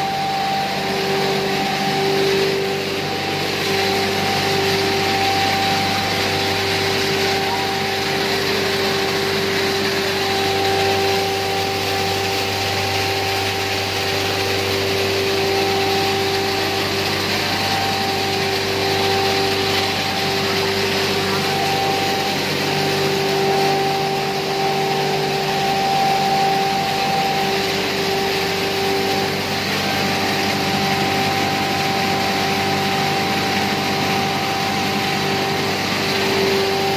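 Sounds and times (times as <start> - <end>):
grinding mill hum: 0.0 - 36.9
mill whine: 0.0 - 36.9.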